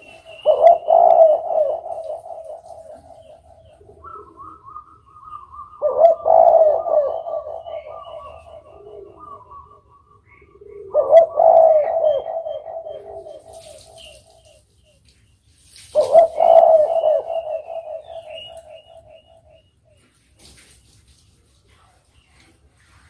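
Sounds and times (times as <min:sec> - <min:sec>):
dove cooing: 0:00.0 - 0:14.6, 0:15.9 - 0:20.0.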